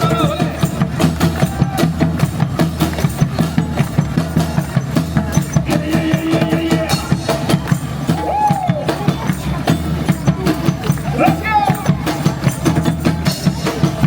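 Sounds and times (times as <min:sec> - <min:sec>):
bass line: 0:00.0 - 0:14.0
music with fast beat: 0:00.0 - 0:14.0.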